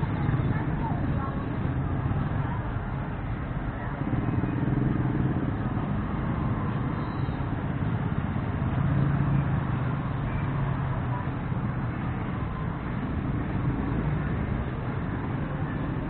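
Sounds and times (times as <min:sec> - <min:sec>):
street traffic noise: 0:00.0 - 0:16.0
vehicle engine running nearby: 0:00.0 - 0:16.0.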